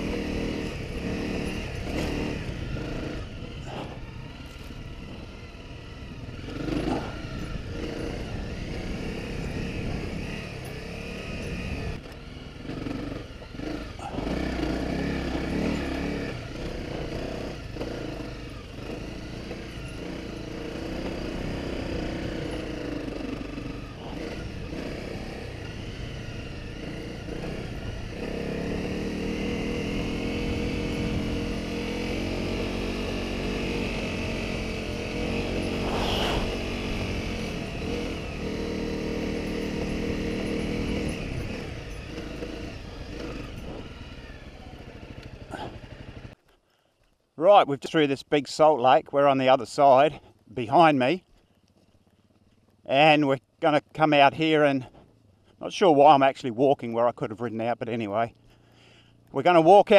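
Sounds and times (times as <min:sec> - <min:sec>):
motorcycle engine running: 0:00.0 - 0:47.2, 0:50.0 - 0:55.6.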